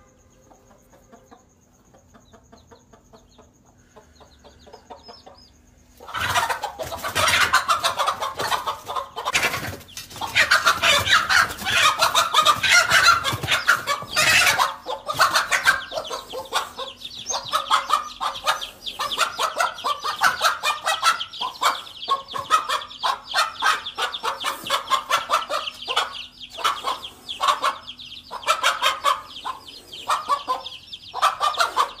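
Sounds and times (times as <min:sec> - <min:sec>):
chicks cheeping: 0:00.0 - 0:32.0
hen squawking and clucking: 0:06.0 - 0:32.0.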